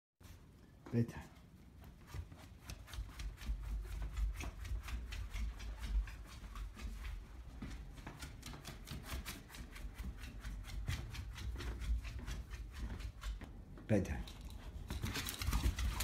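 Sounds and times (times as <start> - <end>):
dog claws clicking on hard floor: 2.1 - 16.0.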